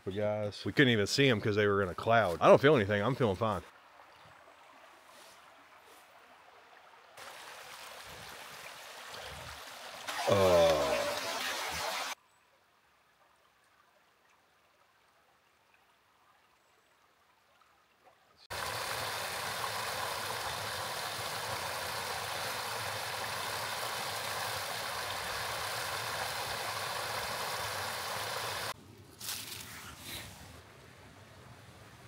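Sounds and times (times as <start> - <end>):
flowing river water: 2.4 - 28.8.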